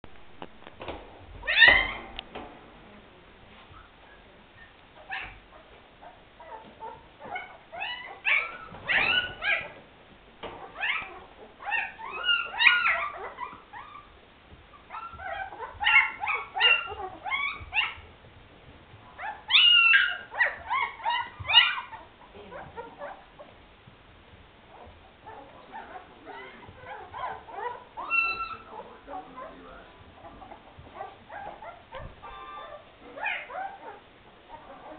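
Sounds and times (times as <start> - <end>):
puppies whimpering and squealing: 1.4 - 2.1, 3.7 - 9.8, 10.6 - 18.1, 19.0 - 23.5, 24.7 - 34.9.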